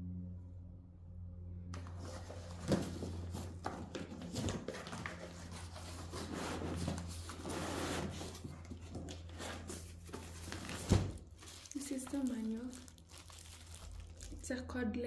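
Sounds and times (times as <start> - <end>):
packaging rustling and crinkling: 1.8 - 14.5.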